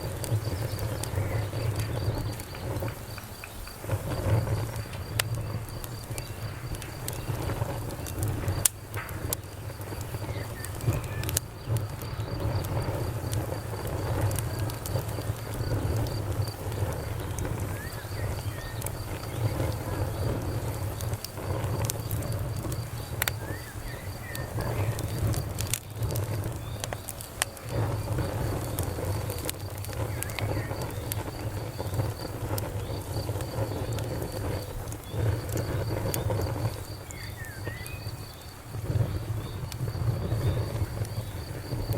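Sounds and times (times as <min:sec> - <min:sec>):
fire popping: 0:00.0 - 0:41.9
low rumble of flames: 0:00.0 - 0:41.9
wood fire crackling: 0:00.0 - 0:41.9.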